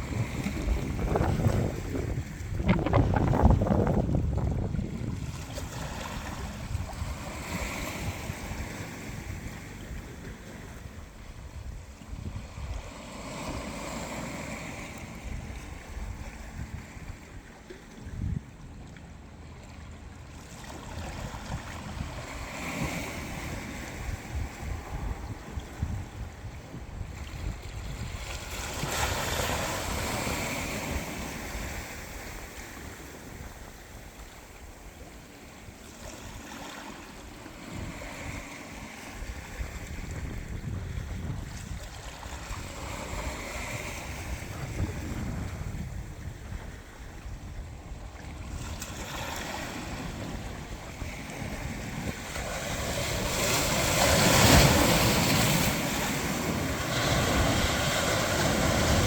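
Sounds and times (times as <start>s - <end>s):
waves washing on shore: 0.0s - 17.9s, 20.1s - 59.0s
wind buffeting microphone: 0.0s - 18.7s, 21.0s - 36.5s, 37.1s - 59.0s.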